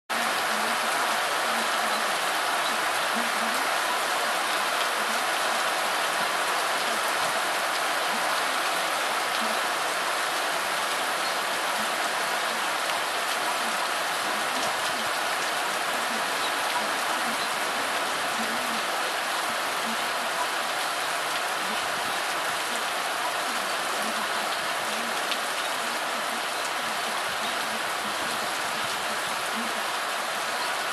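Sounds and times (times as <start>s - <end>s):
heavy rain splashing into water: 0.1s - 30.9s.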